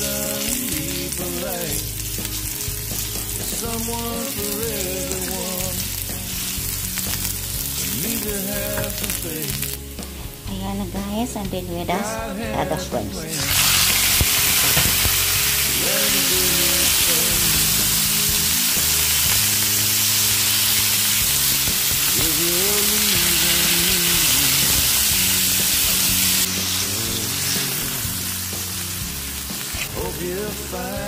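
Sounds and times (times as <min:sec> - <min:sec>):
shrimp sizzling in hot oil: 0:00.0 - 0:10.5, 0:13.3 - 0:31.0.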